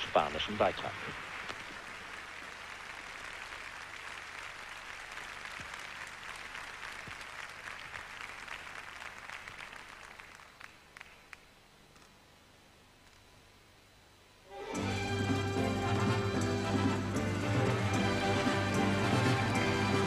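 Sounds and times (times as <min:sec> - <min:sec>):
audience applauding: 0:00.0 - 0:11.4, 0:14.6 - 0:20.0.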